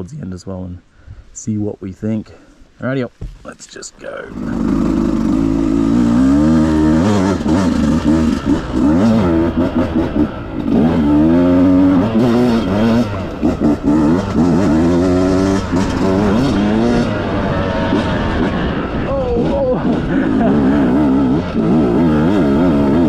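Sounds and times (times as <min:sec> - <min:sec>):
dirt bike engine accelerating: 0:04.2 - 0:23.0.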